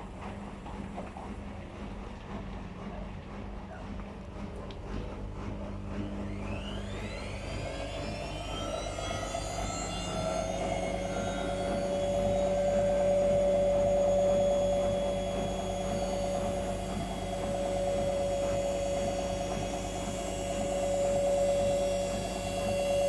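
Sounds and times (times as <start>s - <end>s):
washing machine spin motor whine: 0.0s - 23.0s.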